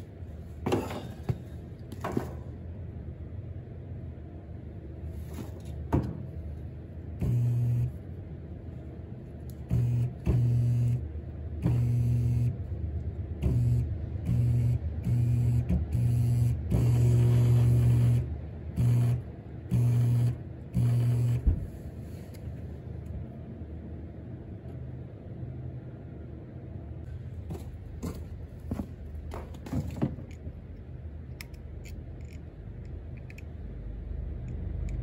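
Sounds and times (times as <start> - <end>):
burner motor electric hum: 0.0 - 35.0.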